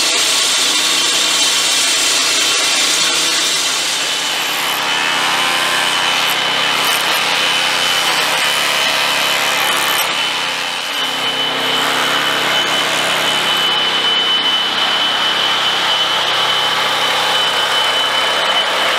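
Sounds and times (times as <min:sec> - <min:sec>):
asphalt saw grinding and whining: 0:00.0 - 0:18.9.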